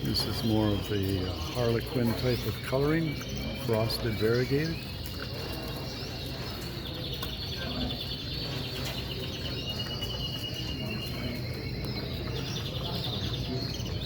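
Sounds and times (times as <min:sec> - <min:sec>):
canaries singing: 0:00.0 - 0:14.0.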